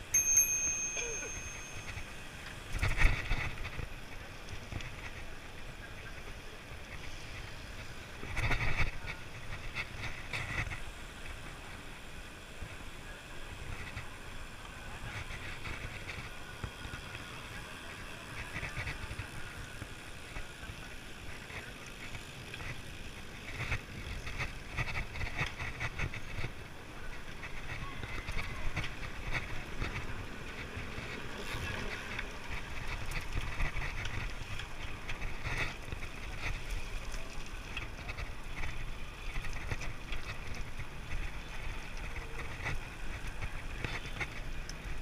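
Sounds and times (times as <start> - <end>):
bicycle rapid ticking: 0.0 - 45.0.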